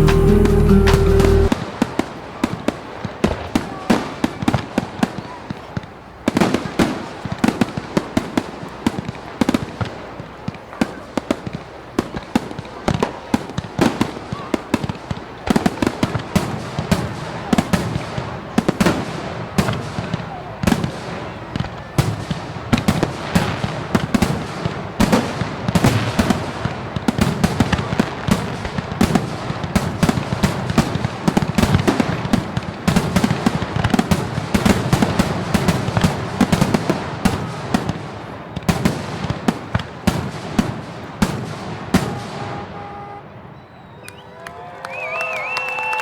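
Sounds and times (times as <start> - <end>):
fireworks bangs and crackles: 0.0 - 43.6.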